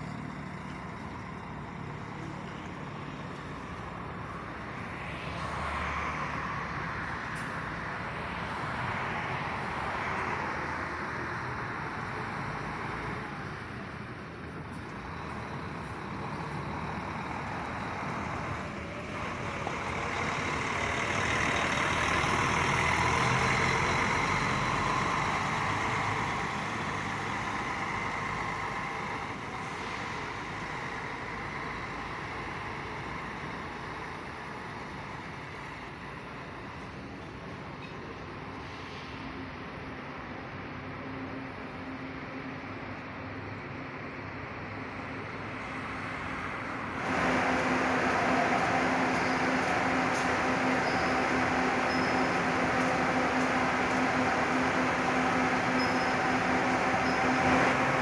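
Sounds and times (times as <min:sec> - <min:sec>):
bus diesel engines rumbling: 0:00.0 - 0:58.0.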